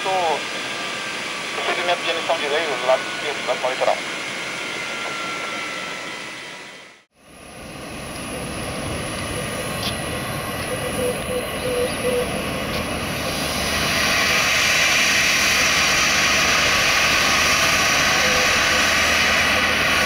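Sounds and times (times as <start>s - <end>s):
jet engine running: 0.0s - 20.0s.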